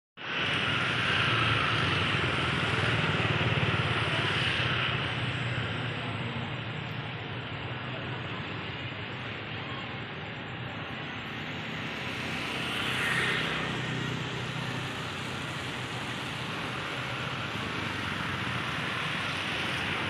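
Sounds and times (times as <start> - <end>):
street traffic noise: 0.2 - 20.0.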